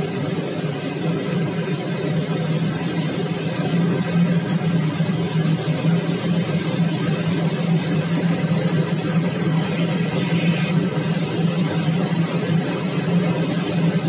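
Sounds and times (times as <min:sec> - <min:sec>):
air rushing around glider cockpit: 0:00.0 - 0:14.0
low hum: 0:00.0 - 0:14.0.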